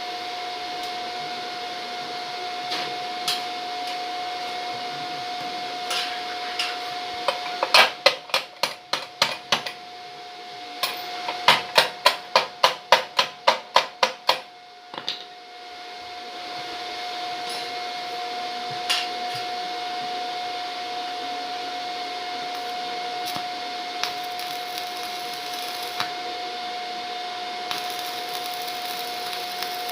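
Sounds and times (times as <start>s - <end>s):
welding machine hiss and whine: 0.0s - 29.9s.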